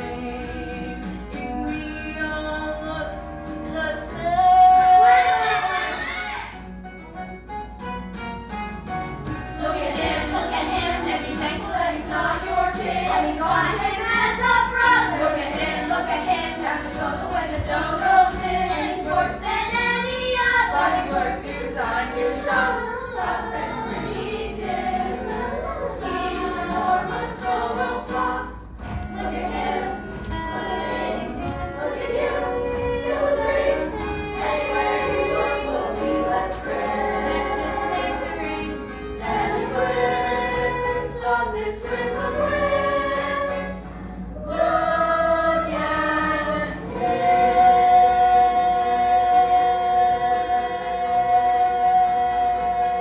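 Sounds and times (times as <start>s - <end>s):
chorus singing: 0.0s - 6.6s, 9.4s - 53.0s.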